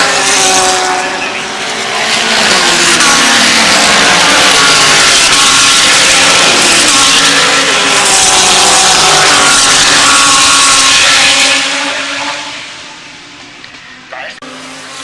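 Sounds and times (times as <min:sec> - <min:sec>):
race cars passing: 0:00.0 - 0:15.0.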